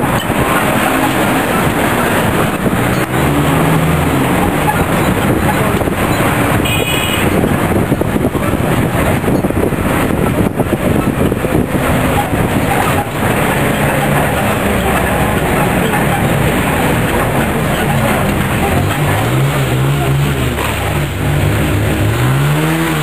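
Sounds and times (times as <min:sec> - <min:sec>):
vehicle road and engine noise: 0:00.0 - 0:23.0.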